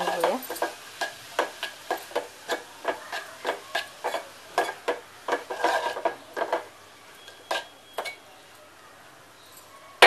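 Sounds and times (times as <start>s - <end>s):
spoon scraping metal pot: 0.0s - 8.2s.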